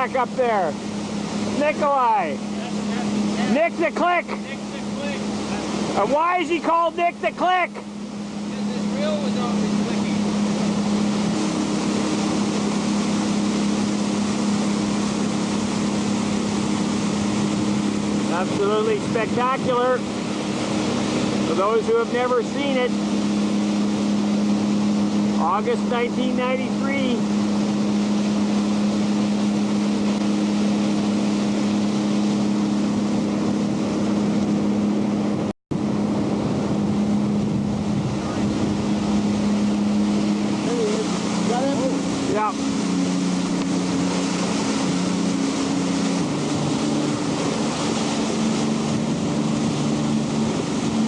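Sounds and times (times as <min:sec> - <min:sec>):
boat engine hum: 0:00.0 - 0:51.0
wind and water hiss: 0:00.0 - 0:51.0.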